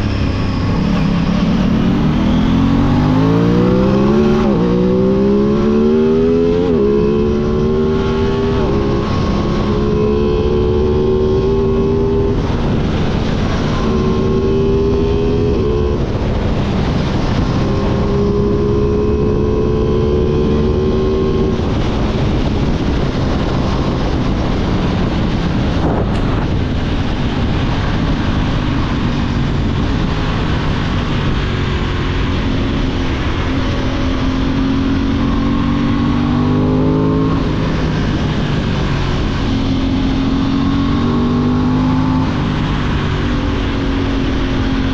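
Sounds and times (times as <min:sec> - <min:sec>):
loud rushing noise: 0:00.0 - 0:44.9
motorcycle accelerating: 0:00.0 - 0:44.9.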